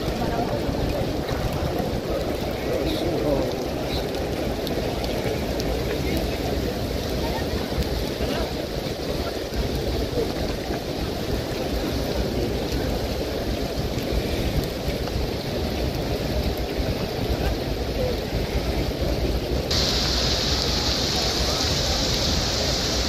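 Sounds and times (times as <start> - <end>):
heavy rain on stone: 0.0 - 23.0
wind rumbling on microphone: 0.0 - 23.0.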